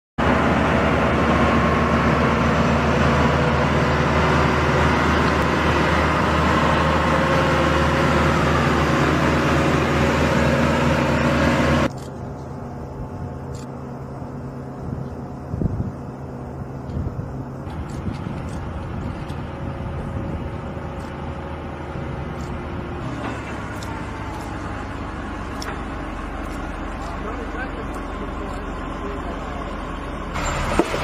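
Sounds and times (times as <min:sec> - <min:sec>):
tow tractor engine running: 0:00.2 - 0:31.0.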